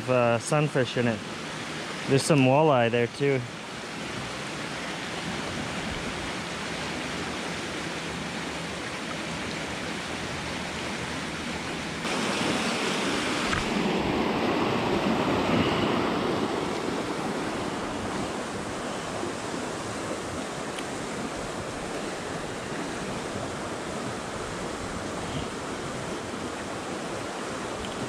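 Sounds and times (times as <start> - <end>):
water rushing roar: 0.0 - 28.0.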